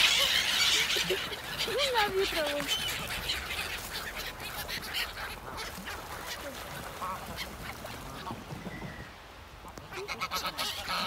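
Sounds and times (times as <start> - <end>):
ducks quacking: 0.0 - 8.5, 9.6 - 11.0.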